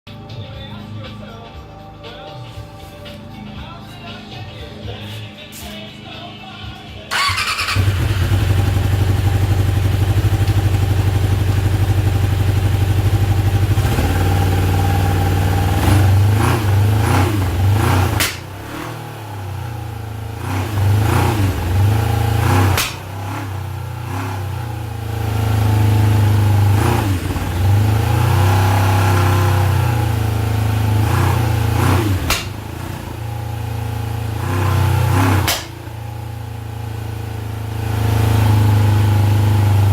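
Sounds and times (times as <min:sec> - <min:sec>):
motorcycle engine starting and revving: 0:07.1 - 0:39.9.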